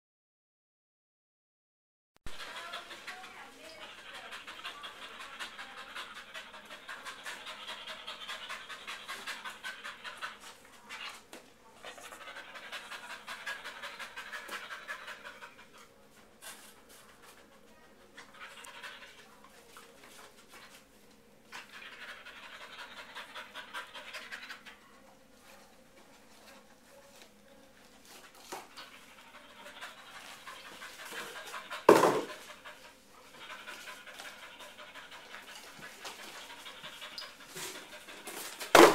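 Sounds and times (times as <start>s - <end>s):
dog panting fast: 2.3s - 38.9s.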